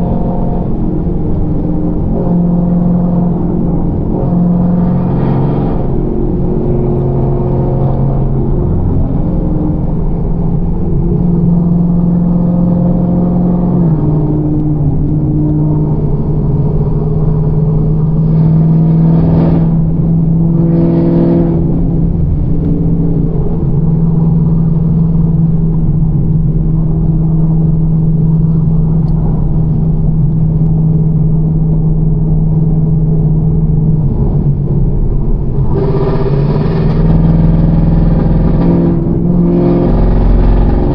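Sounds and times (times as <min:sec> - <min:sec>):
car engine droning: 0:00.0 - 0:40.9.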